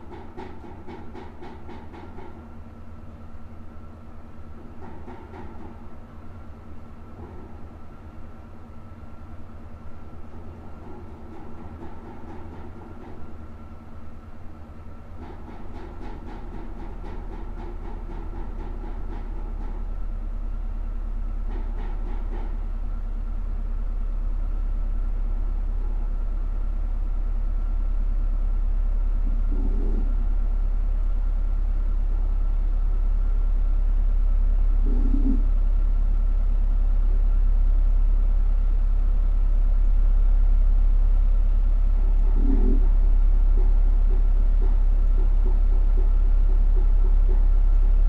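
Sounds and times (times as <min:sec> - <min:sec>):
heat pump low rumble: 0:00.0 - 0:48.0.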